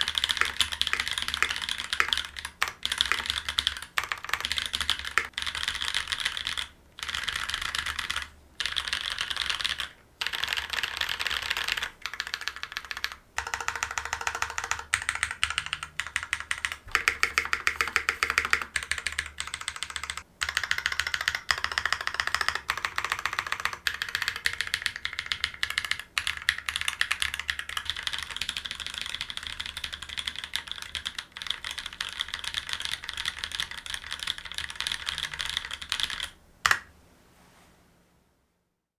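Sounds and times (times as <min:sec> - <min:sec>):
mechanical keyboard typing: 0:00.0 - 0:36.9.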